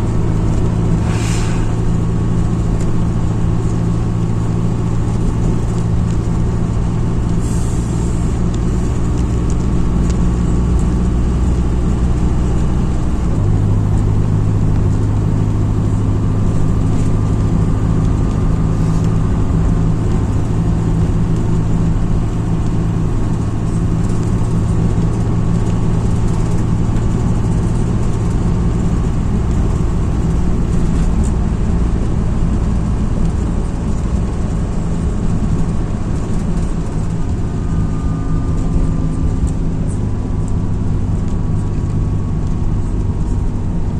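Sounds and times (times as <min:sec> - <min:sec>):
bus diesel engine: 0:00.0 - 0:43.9
road noise: 0:00.0 - 0:43.9.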